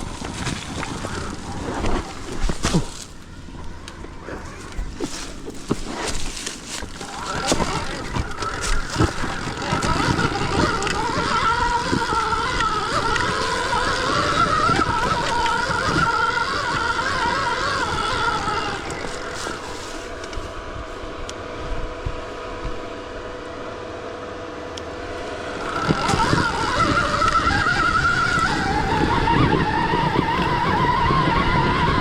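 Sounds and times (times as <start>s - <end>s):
electric dirt bike motor whining: 0.0s - 32.0s.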